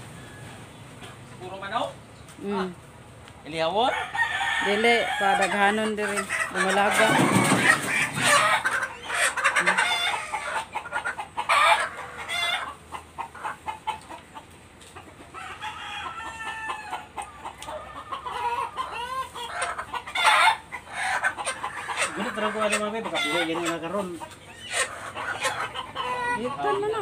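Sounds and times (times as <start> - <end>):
chickens clucking and calling: 0.0 - 27.0.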